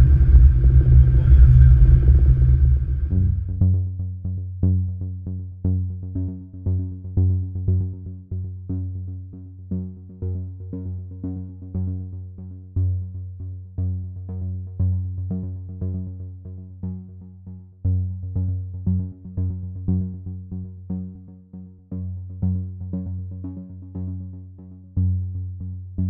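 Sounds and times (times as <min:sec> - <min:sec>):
low held synth bass: 0:00.0 - 0:26.0
pulsing synthesizer notes: 0:00.0 - 0:26.0.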